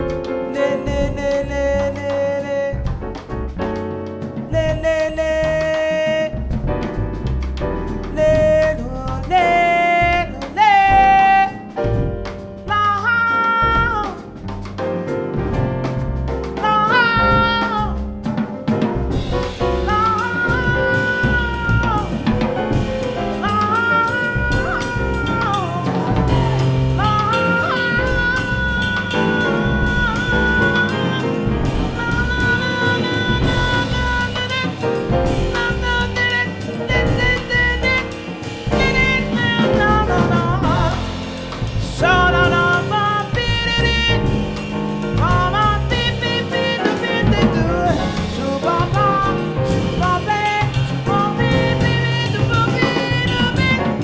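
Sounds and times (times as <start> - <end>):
jazz band playing: 0.0 - 54.0
woman singing jazz: 0.0 - 54.0.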